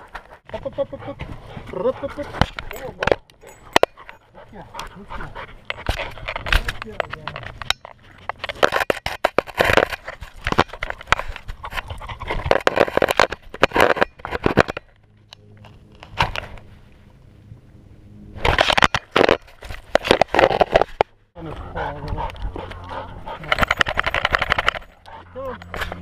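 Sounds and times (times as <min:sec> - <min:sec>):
camera scraping fur and rock: 0:00.0 - 0:00.5, 0:01.2 - 0:17.0, 0:18.3 - 0:26.0.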